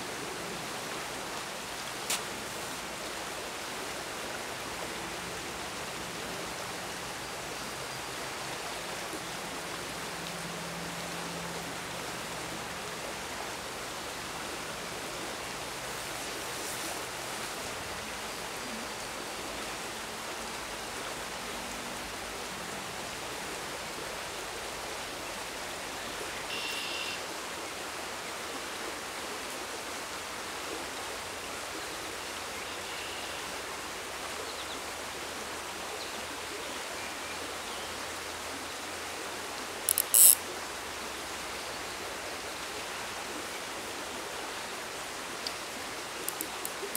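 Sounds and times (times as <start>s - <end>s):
stream rushing over gravel: 0.0s - 46.9s.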